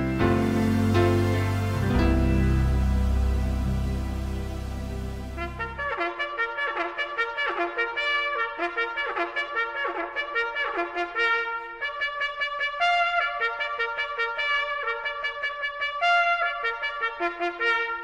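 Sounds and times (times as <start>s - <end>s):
trumpet playing lively tune: 0.0s - 18.0s.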